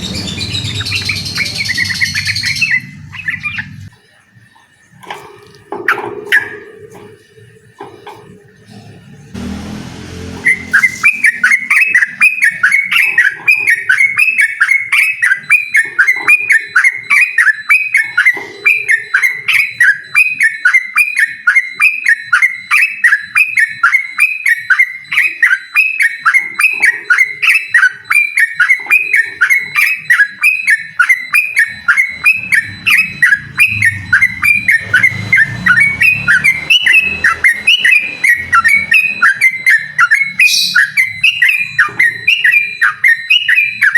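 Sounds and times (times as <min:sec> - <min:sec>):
bird singing repeated notes: 0:00.0 - 0:43.9.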